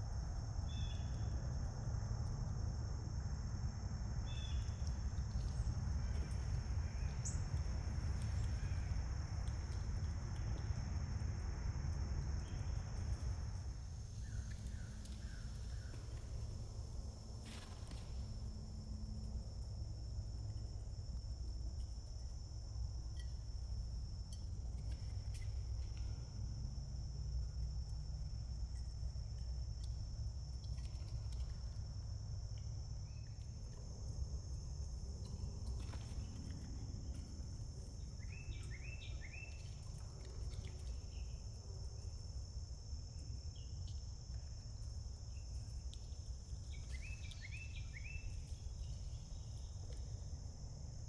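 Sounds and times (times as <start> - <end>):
insects trilling: 0.1 - 51.0.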